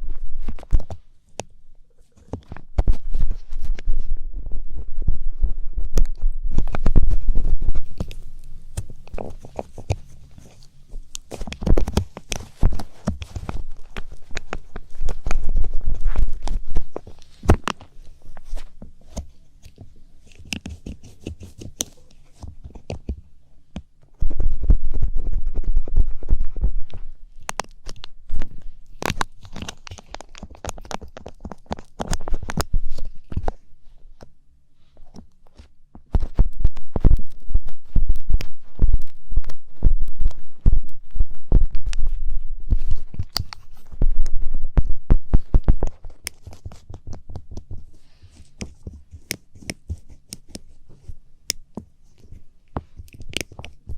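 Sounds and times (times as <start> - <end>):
ear pick scratching microphone: 0.0 - 1.2, 2.0 - 23.2, 24.1 - 34.2, 35.5 - 53.9.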